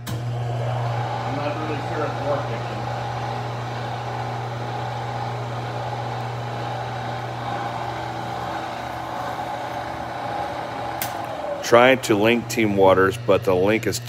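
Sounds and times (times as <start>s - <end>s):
low hum: 0.0s - 14.0s
milling machine cutting metal: 0.0s - 14.0s.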